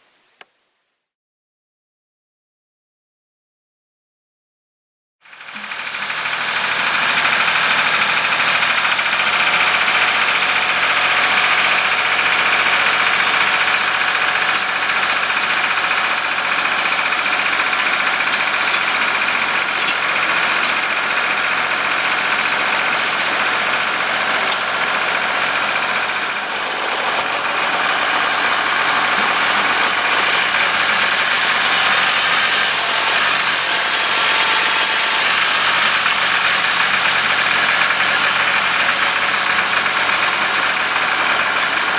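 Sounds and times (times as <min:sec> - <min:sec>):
tractor engine running: 0:05.3 - 0:41.9.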